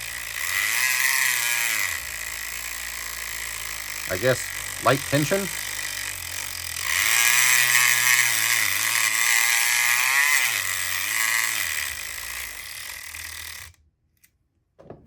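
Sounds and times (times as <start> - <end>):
electric pick gun buzzing: 0.0 - 13.8.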